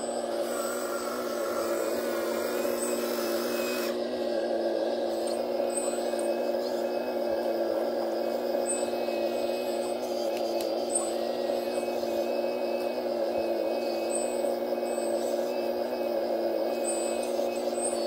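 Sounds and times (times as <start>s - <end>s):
model excavator motor hum: 0.0s - 18.0s.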